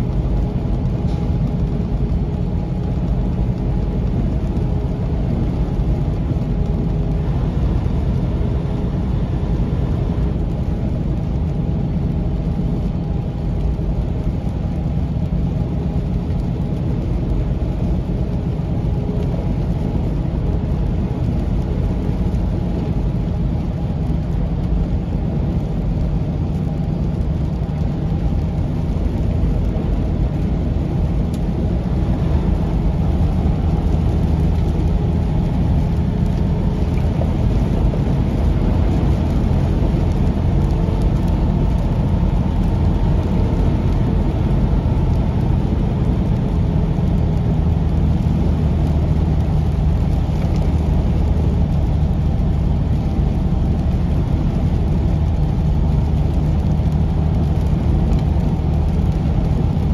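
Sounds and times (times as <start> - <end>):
diesel engine droning: 0.0 - 59.9
tyre and road noise: 0.0 - 59.9.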